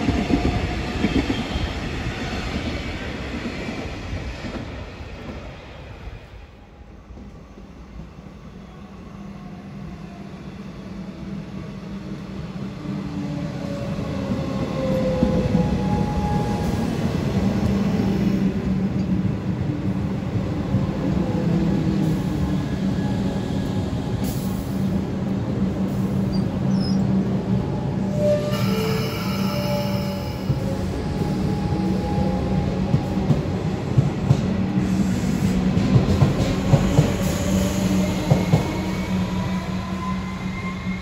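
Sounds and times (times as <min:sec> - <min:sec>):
train low hum: 0:00.0 - 0:41.0.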